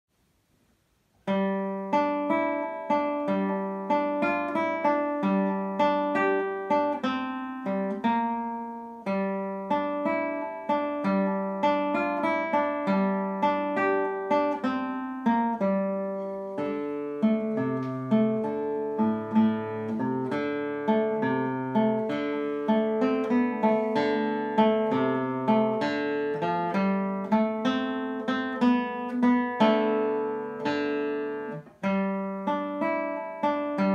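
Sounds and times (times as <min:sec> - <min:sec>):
fingerpicked acoustic guitar: 0:01.2 - 0:33.9.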